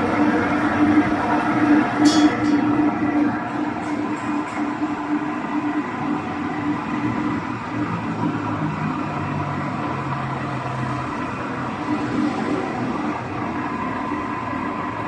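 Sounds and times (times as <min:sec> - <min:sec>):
fan motor humming: 0:00.0 - 0:15.0.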